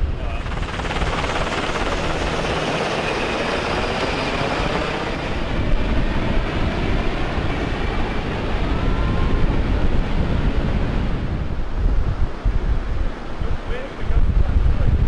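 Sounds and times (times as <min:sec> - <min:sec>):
helicopter flying overhead: 0:00.0 - 0:14.0
wind buffeting microphone: 0:00.0 - 0:15.0.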